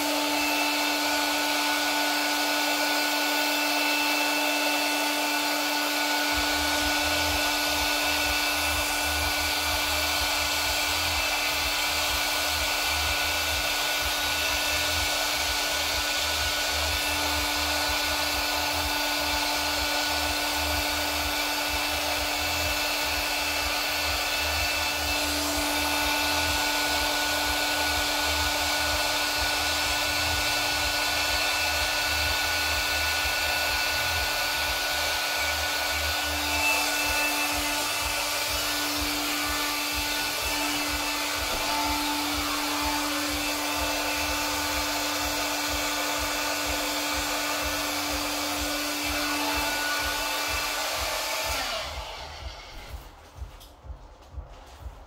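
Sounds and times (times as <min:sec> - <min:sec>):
electric blower whooshing: 0:00.0 - 0:55.0.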